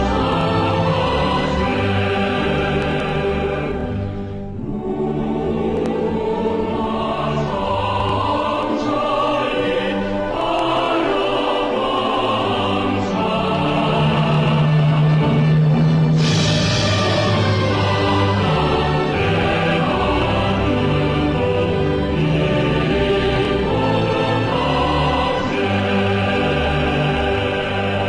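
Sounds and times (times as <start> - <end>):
choir singing held chords: 0.0 - 28.0
orchestral accompaniment: 0.0 - 28.0.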